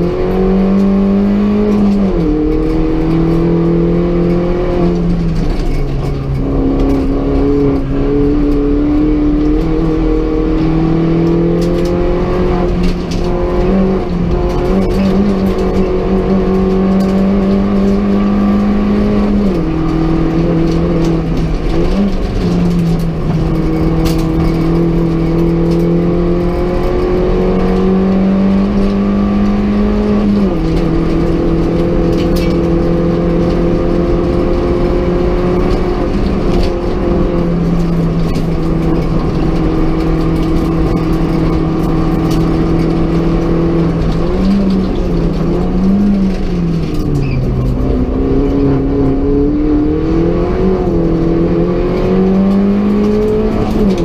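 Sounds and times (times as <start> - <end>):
race car engine under load: 0.0 - 54.0.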